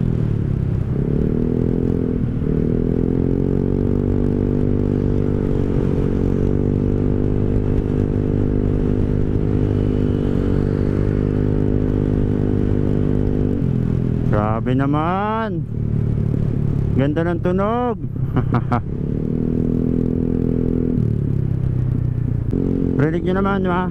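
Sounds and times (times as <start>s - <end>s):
scooter engine with bassy exhaust: 0.0s - 23.9s.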